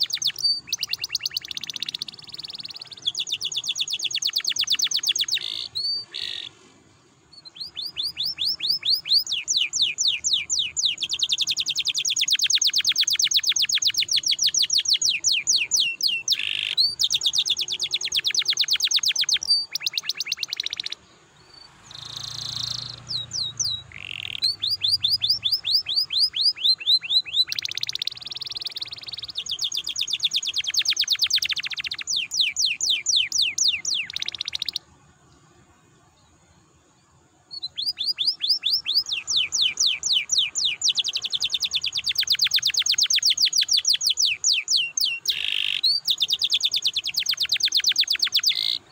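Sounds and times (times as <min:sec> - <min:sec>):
canary singing trills: 0:00.0 - 0:06.6, 0:07.3 - 0:34.9, 0:37.5 - 0:48.9.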